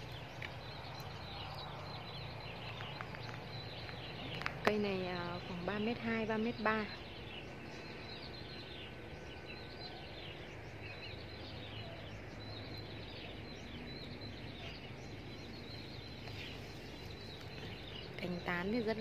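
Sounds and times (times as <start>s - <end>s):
outdoor background hum: 0.0s - 19.0s
small birds chirping: 0.0s - 19.0s.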